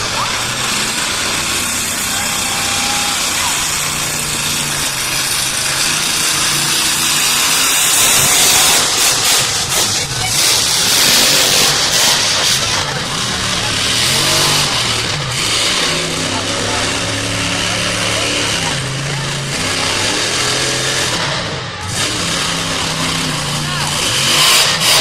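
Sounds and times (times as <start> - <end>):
crowd noise: 0.0 - 25.0
truck engines revving loudly: 0.0 - 25.0.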